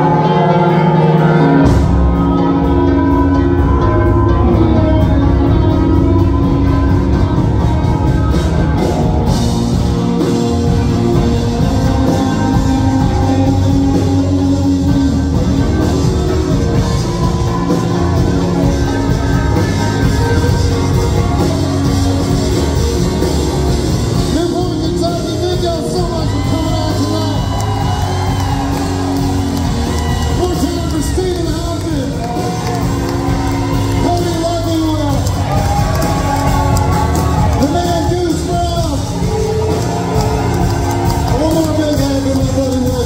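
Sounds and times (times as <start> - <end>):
country-rock band playing: 0.0 - 43.0.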